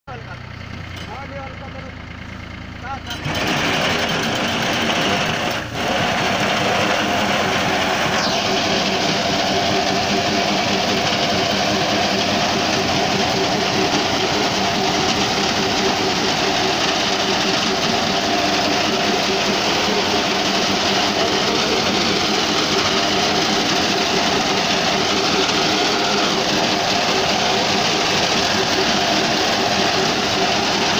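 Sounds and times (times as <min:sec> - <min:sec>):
tractor engine under load: 0:00.1 - 0:30.9.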